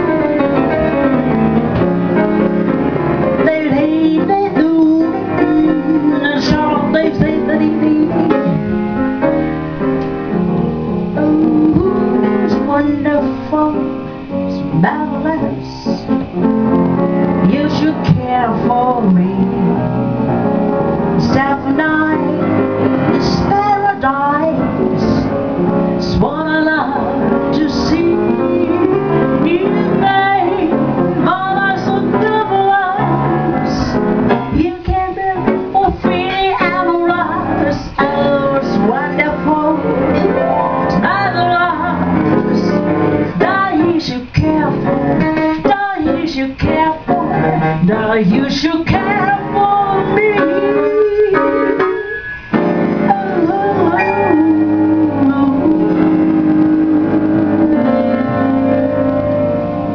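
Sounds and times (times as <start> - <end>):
live instrumental accompaniment: 0.0 - 59.9
woman singing into microphone: 3.4 - 8.7, 10.9 - 16.3, 17.2 - 19.9, 21.1 - 25.4, 26.0 - 59.1.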